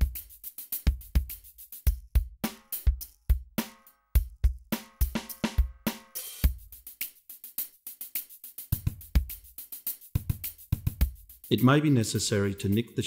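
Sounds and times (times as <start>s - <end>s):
drum kit beat: 0.0s - 13.0s.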